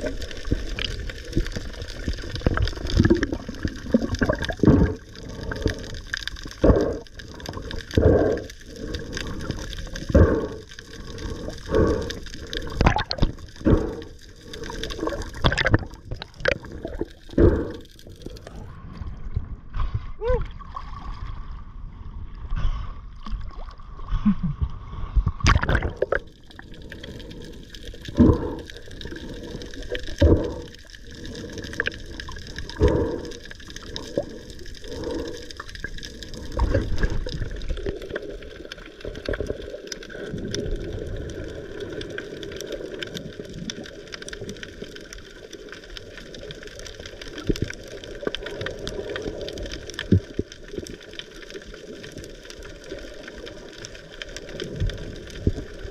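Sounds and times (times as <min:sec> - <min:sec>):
sea water sloshing: 0:00.0 - 0:24.2, 0:24.8 - 0:55.9
water rushing underwater: 0:00.0 - 0:55.9.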